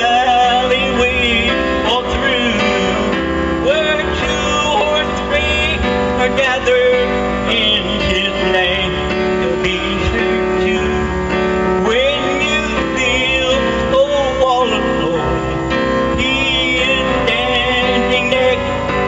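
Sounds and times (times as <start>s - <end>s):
instrumental accompaniment: 0.0s - 19.0s
man singing into microphone: 0.0s - 19.0s.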